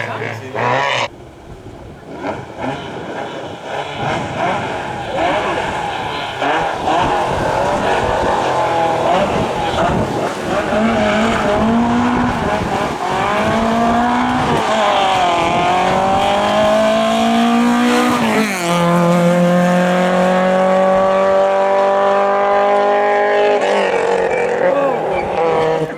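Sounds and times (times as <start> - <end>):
rally car engine accelerating: 0.0 - 25.9.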